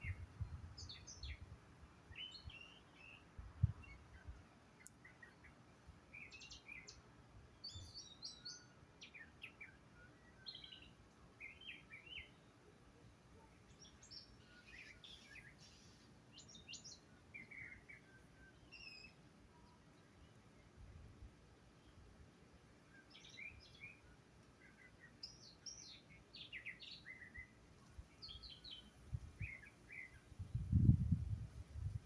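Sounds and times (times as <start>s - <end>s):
songbirds chirping faintly: 0.0s - 32.0s.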